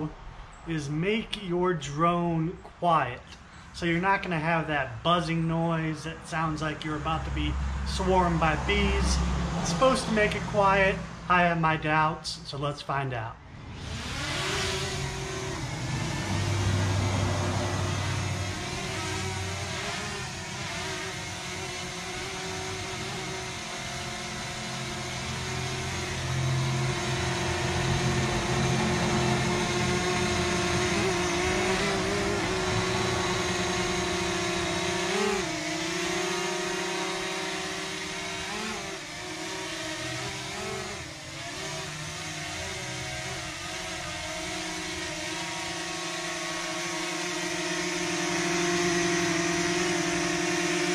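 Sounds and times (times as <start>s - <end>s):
drone humming: 6.0s - 11.8s, 13.4s - 50.9s.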